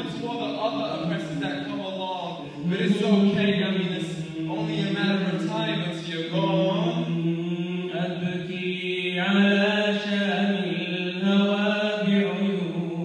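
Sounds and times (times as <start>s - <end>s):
person chanting in long notes: 0.0s - 13.0s.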